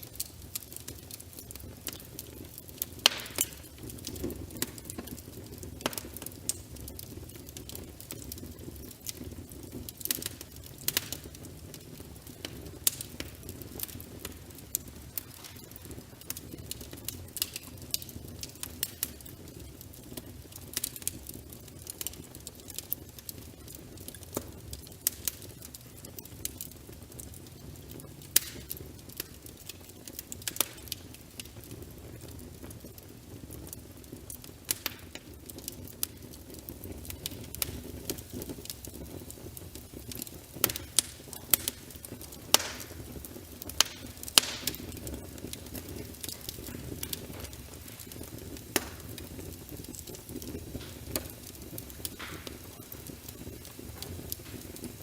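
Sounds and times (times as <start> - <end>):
low rumble of flame: 0.0 - 55.0
sharp pops and snaps: 0.0 - 55.0
wood fire crackling: 0.0 - 55.0.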